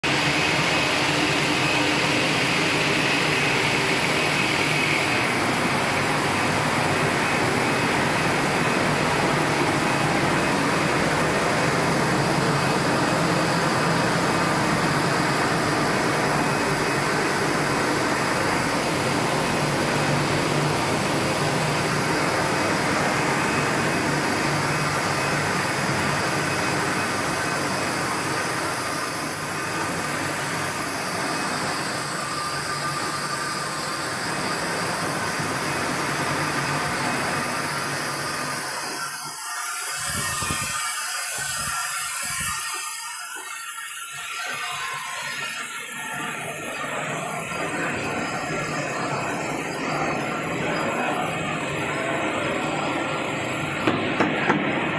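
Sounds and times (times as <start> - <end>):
high machine whine: 0.0 - 54.9
production line machinery drone: 0.0 - 54.9.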